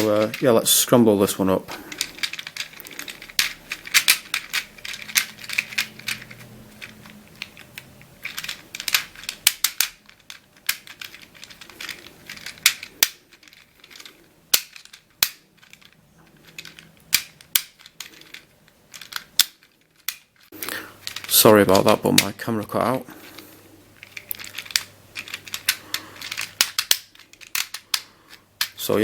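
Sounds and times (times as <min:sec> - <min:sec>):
plastic puzzle tiles clicking: 0:00.0 - 0:00.8, 0:01.8 - 0:22.4, 0:23.3 - 0:28.9.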